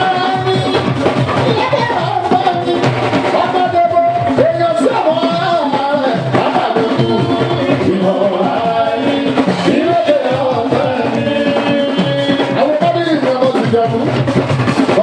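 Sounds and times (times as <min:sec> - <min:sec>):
person singing: 0:00.0 - 0:13.7
drums and percussion: 0:00.0 - 0:15.0.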